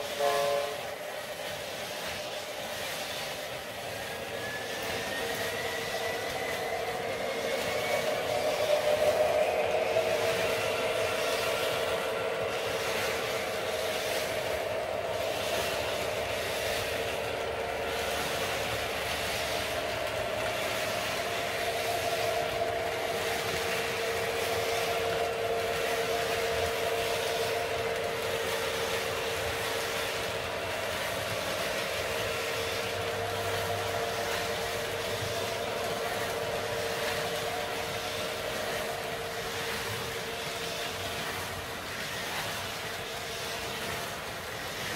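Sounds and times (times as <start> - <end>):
model train motor hum: 0.0 - 44.9
wheels rumbling on track: 0.0 - 44.9.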